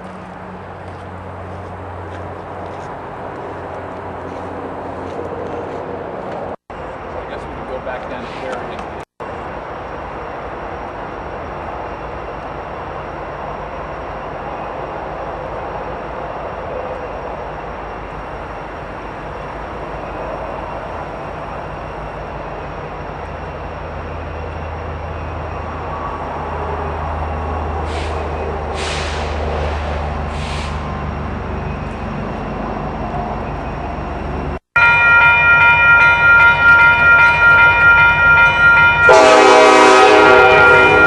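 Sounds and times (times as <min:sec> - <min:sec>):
locomotive engine drone: 0:00.0 - 0:41.0
railcars rumbling: 0:00.0 - 0:41.0.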